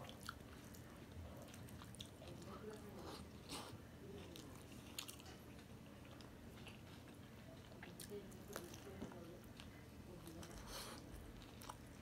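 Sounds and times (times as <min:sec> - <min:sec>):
faint chewing and wet mouth sounds: 0:00.0 - 0:12.0.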